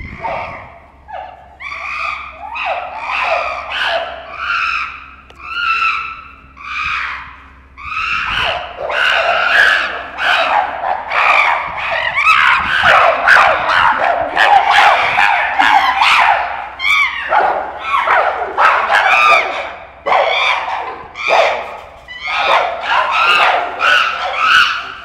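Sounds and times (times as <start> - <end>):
chimpanzees screaming: 0.0 - 25.0.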